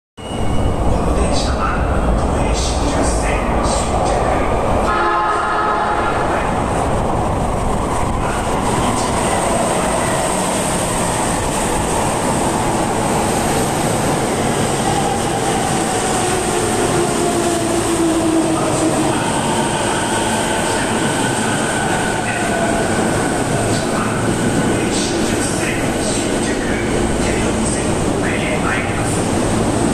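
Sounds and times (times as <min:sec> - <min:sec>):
train wheel and rail rumble: 0:00.2 - 0:29.9.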